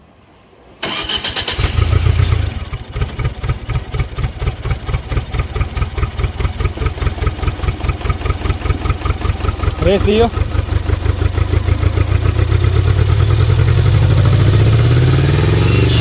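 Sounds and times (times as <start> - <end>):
car engine starting and idling: 0.7 - 16.0.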